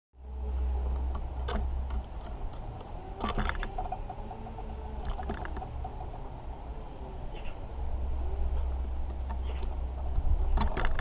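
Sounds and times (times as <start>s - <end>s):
squirrel clicking and scraping seed: 0.2s - 7.6s, 8.5s - 11.0s
low rumble: 0.2s - 11.0s.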